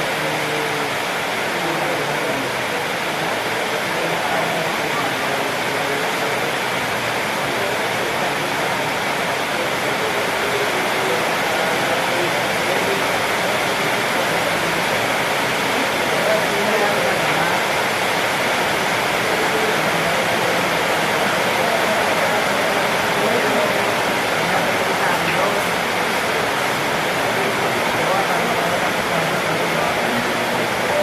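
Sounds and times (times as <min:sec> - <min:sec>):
faint chatter of voices: 0:00.0 - 0:31.0.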